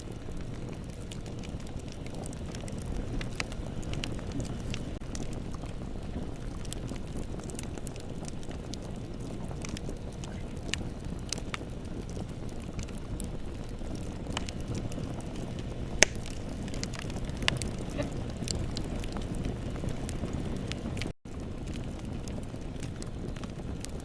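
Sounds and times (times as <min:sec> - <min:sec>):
bonfire rumbling: 0:00.0 - 0:24.0
wood crackles and pops: 0:00.0 - 0:24.0.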